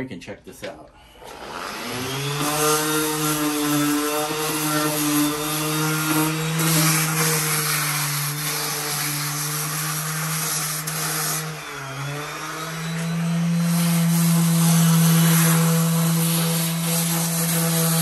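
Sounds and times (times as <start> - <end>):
electric sander on concrete: 1.2 - 18.0.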